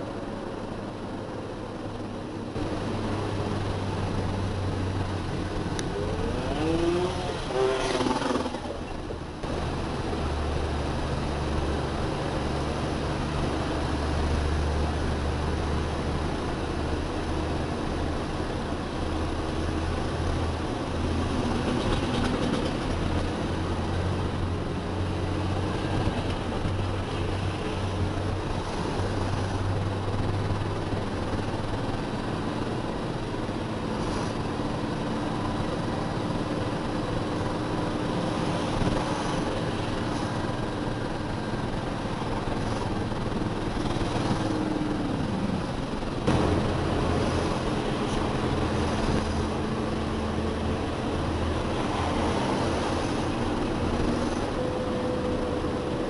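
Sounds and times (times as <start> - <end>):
diesel engine drone: 0.0 - 56.0
road noise: 0.0 - 56.0.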